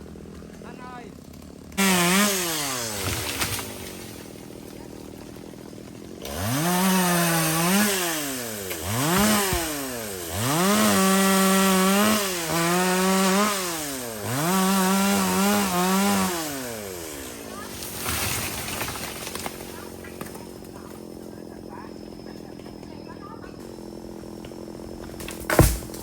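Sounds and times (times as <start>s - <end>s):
chainsaw revving and cutting wood: 0.0s - 26.0s.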